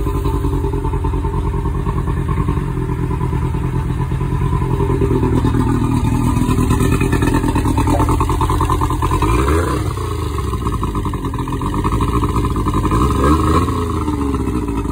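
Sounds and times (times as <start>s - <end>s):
outboard engine running: 0.0s - 14.9s.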